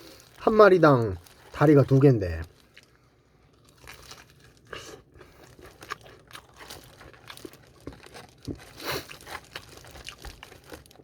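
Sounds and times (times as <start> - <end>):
crunching fried chicken: 0.0 - 11.0.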